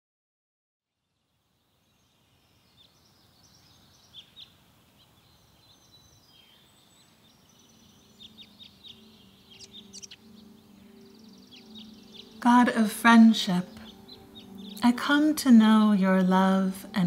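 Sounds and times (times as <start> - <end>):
songbirds chirping: 1.0 - 17.0.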